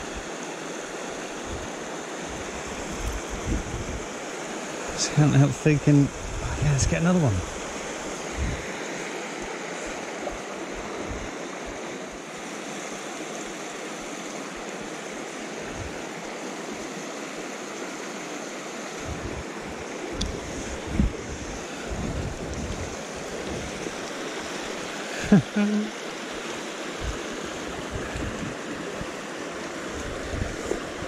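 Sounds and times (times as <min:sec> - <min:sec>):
stream running over stones: 0:00.0 - 0:31.0.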